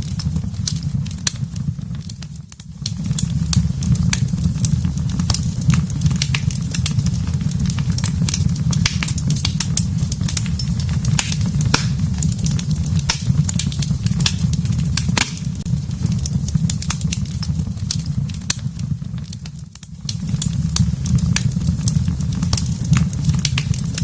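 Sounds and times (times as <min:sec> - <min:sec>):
low rumble of flame: 0:00.0 - 0:24.0
wood fire crackling and popping: 0:00.0 - 0:24.0.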